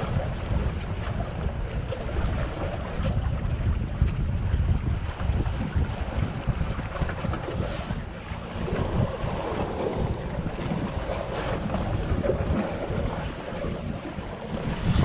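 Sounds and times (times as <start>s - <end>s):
waves washing against rocks: 0.0s - 15.0s
wind buffeting microphone: 0.0s - 15.0s.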